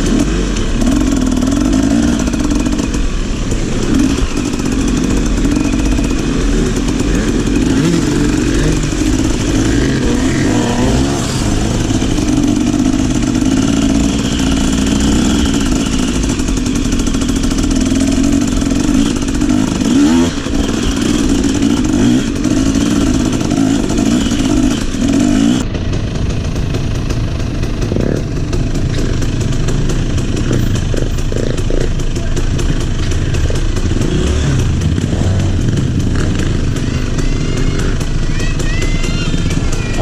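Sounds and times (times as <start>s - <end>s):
motorcycle engine running: 0.0s - 40.0s
scattered clatter: 0.0s - 40.0s.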